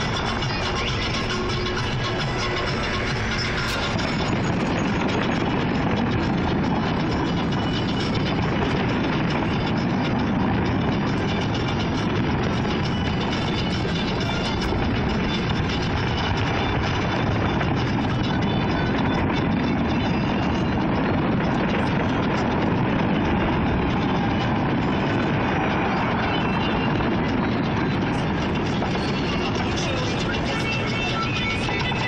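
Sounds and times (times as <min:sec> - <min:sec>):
distant fireworks bangs and crackles: 0:00.0 - 0:32.0.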